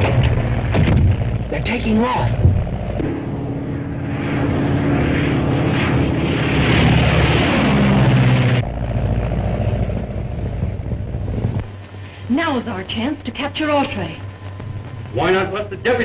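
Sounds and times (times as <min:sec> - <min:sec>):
propeller airplane engine: 0:00.0 - 0:16.0.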